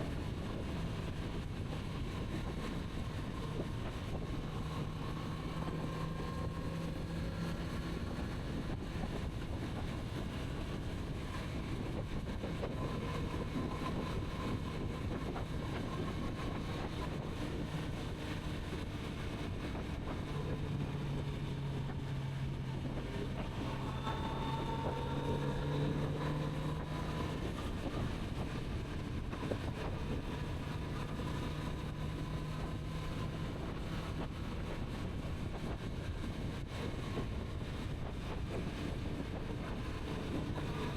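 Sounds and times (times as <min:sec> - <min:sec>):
wind rushing past microphone: 0:00.0 - 0:40.9.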